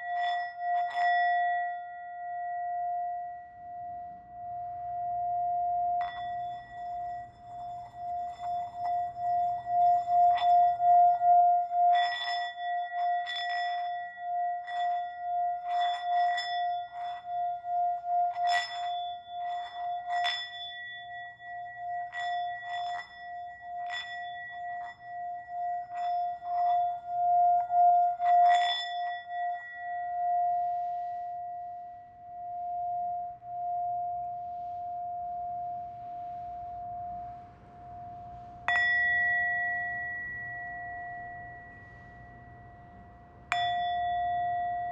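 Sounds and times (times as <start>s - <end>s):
singing bowl humming: 0.0s - 44.9s
singing bowl strikes ringing: 0.0s - 44.9s.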